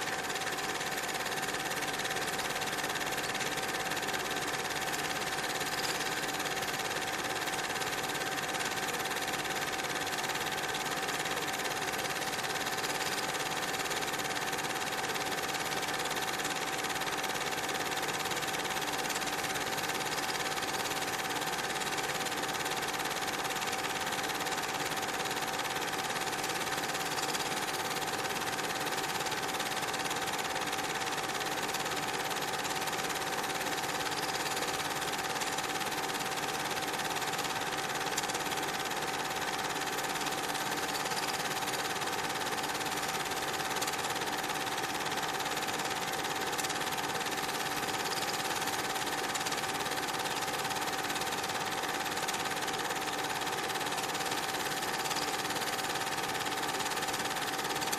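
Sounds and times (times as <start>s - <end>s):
film projector whirring: 0.0s - 57.9s.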